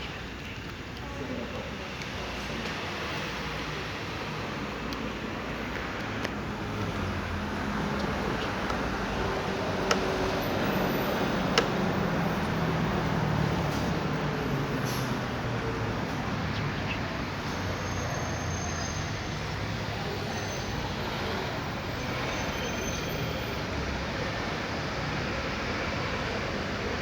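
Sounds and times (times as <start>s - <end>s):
steady engine hum: 0.0s - 27.0s
street traffic: 0.0s - 27.0s.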